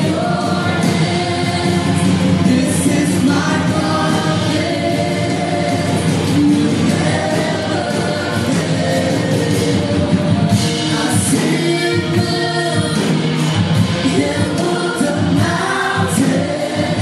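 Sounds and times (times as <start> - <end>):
sustained musical backing: 0.0 - 17.0
voices singing together: 0.0 - 17.0.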